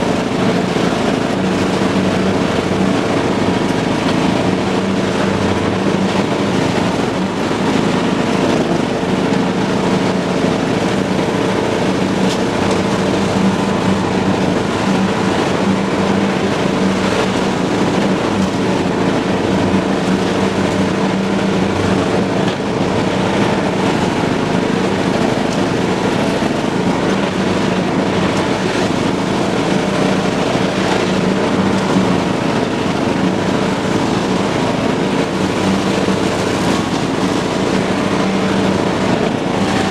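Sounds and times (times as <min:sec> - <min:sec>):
lawn tractor engine humming: 0:00.0 - 0:39.9.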